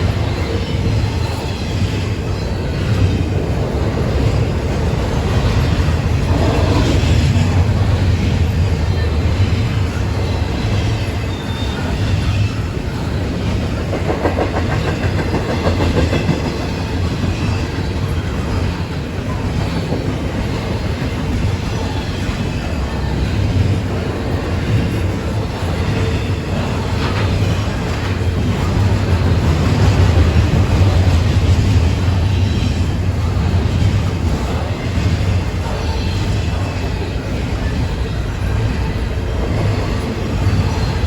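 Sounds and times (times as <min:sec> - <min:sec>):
freight train wheels on rails: 0:00.0 - 0:41.0.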